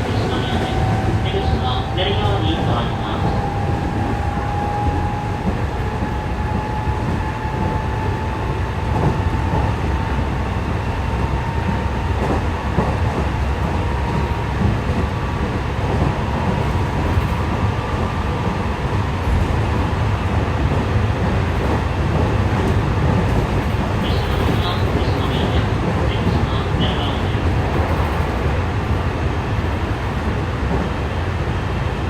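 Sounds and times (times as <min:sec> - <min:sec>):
wheel and rail rumble: 0:00.0 - 0:32.0.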